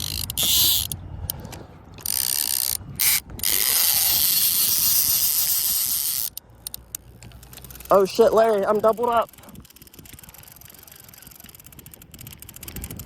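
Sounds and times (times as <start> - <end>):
fishing reel ratcheting buzz: 0.0 - 13.0.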